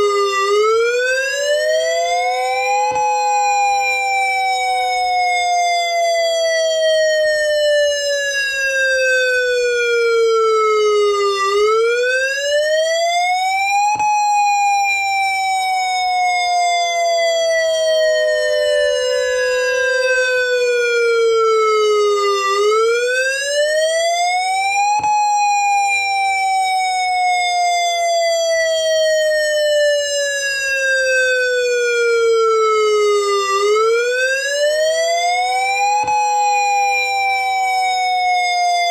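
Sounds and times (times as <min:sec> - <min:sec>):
steady siren tone: 0:00.0 - 0:38.9
warning siren wailing: 0:00.0 - 0:38.9.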